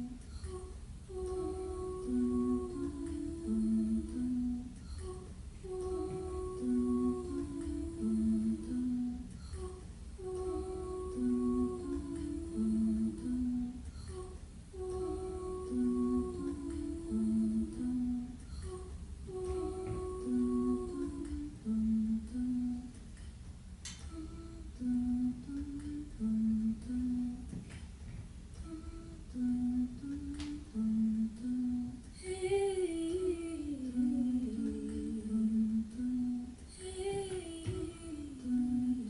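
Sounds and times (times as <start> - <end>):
person humming a tune: 0.0 - 23.0, 23.9 - 27.6, 28.6 - 39.0
person singing: 0.0 - 23.0, 28.6 - 39.0.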